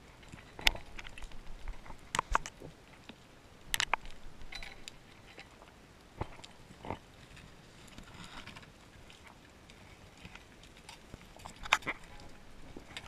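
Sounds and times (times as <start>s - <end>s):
faint underwater crackle and hiss: 0.0s - 13.0s
sharp underwater clicks and knocks: 0.2s - 13.0s.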